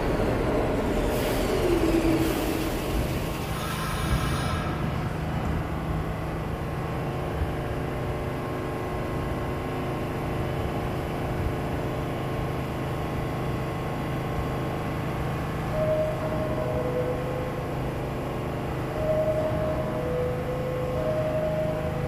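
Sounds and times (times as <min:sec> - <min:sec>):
subway train rumbling: 0:00.0 - 0:22.0.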